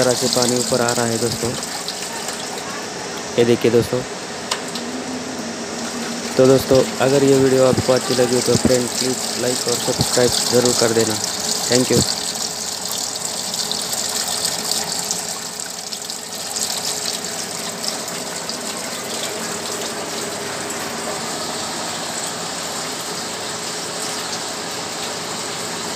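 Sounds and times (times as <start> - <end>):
water gushing and trickling: 0.0 - 2.7, 4.2 - 25.9
faint steady hum: 0.0 - 25.9.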